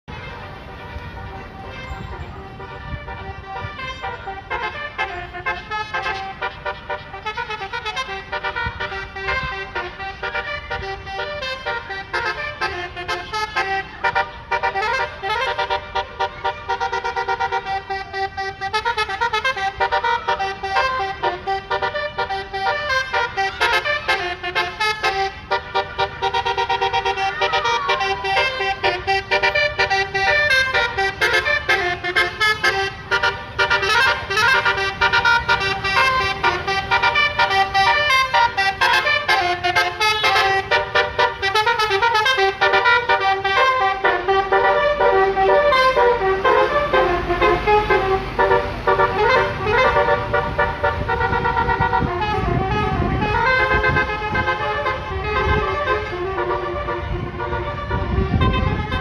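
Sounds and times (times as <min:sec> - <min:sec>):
bus musical horn tune: 0:00.1 - 0:59.0.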